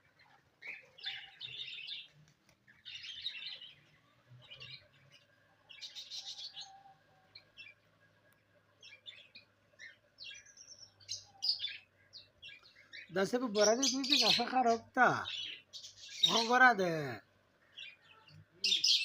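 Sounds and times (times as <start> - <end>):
cage birds chirping: 0.0 - 19.0.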